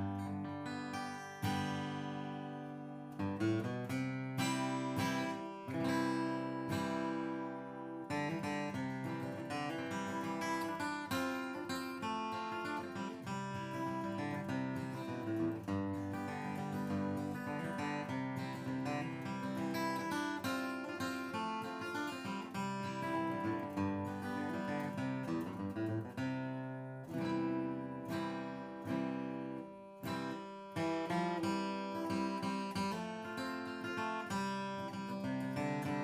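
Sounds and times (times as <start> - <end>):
acoustic guitar strummed and picked: 0.0 - 36.0.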